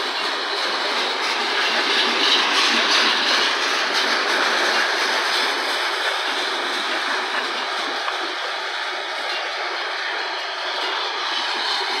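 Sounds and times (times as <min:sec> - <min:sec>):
steel wheels on rail: 0:00.0 - 0:12.0.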